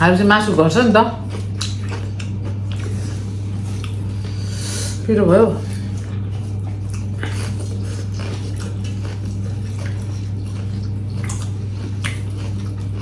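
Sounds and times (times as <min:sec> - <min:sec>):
chewing and eating sounds: 0:00.0 - 0:13.0
low hum: 0:00.0 - 0:13.0.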